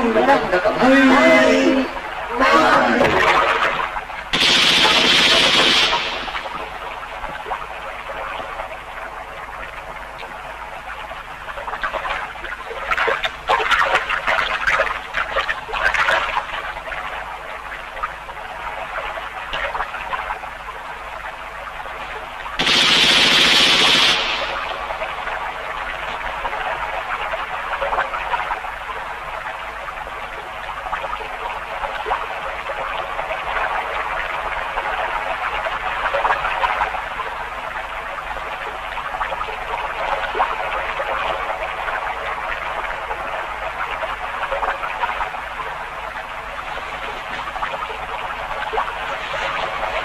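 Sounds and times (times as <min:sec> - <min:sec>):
frogs croaking: 0:00.0 - 0:50.0.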